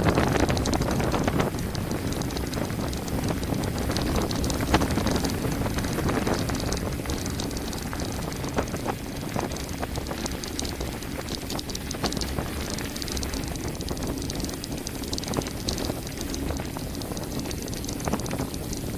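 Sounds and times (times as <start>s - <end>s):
bike rattling and clicking: 0.0s - 18.9s
wind on microphone: 0.0s - 18.9s.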